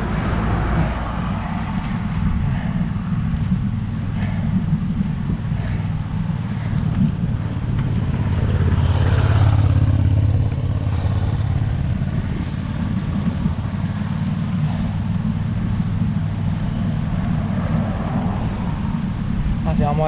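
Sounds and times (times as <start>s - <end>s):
motor vehicle passing: 0.0s - 20.0s
wind rumble on microphone: 0.0s - 20.0s.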